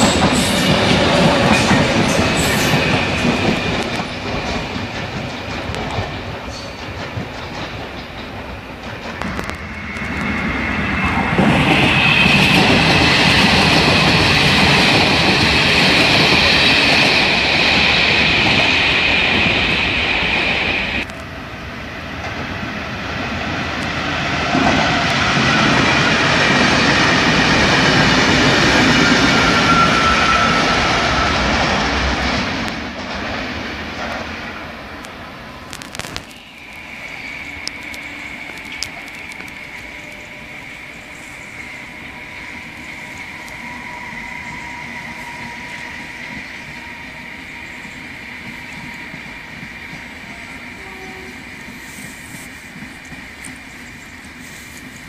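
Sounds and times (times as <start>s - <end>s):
electric trains passing: 0.0s - 55.0s
wheels rumbling on rail: 0.0s - 55.0s.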